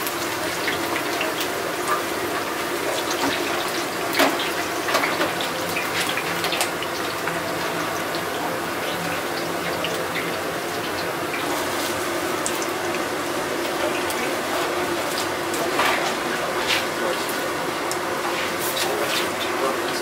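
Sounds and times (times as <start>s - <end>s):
deep fryer oil sizzling: 0.0s - 20.0s.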